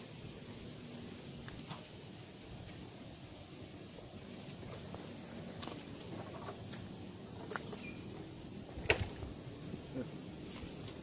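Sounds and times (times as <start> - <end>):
faint high chirping: 0.2 - 11.0.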